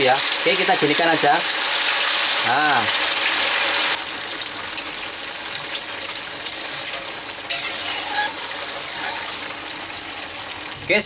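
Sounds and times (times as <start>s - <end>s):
tofu deep-frying in hot oil: 0.0s - 11.0s.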